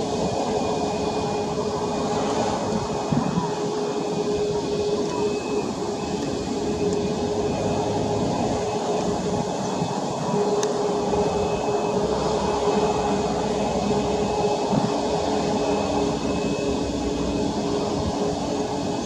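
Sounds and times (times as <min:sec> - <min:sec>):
aircraft engines idling: 0:00.0 - 0:19.0.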